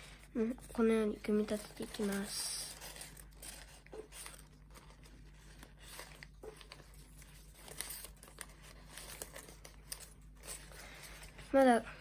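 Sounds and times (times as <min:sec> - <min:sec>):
paper rustling and crinkling: 0:00.0 - 0:11.7.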